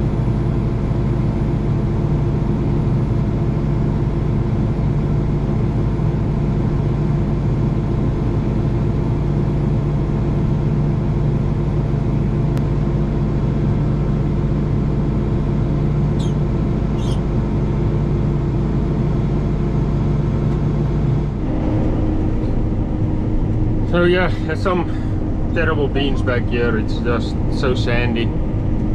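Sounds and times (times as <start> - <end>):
combine harvester engine drone: 0.0 - 28.9.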